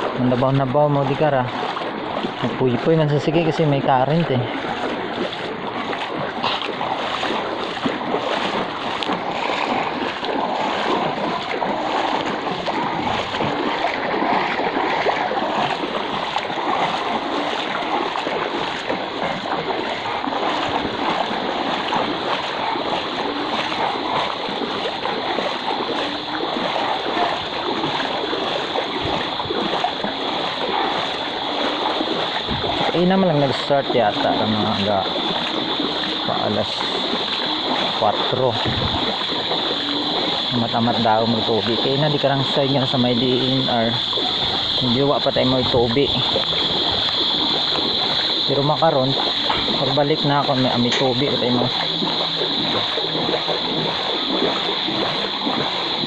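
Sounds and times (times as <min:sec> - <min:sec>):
legs wading through water: 0:00.0 - 0:56.0.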